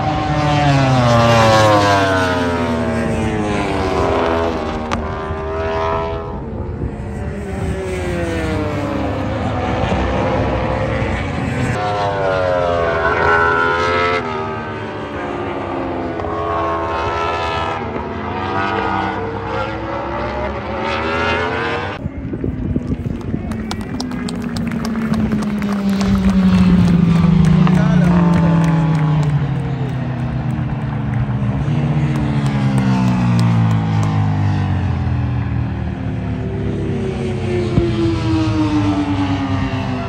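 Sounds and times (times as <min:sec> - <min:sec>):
racing motorcycles passing at speed: 0:00.0 - 0:40.0.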